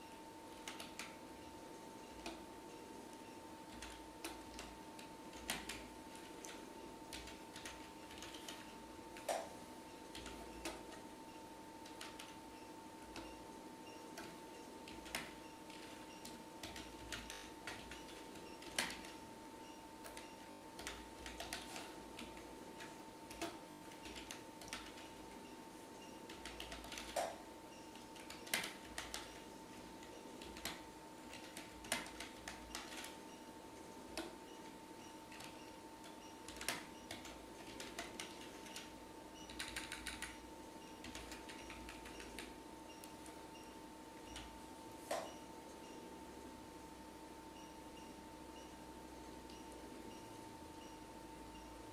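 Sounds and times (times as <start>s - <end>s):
faint steady hum: 0.0s - 51.9s
keyboard typing: 0.5s - 1.2s, 2.0s - 11.2s, 11.8s - 46.0s.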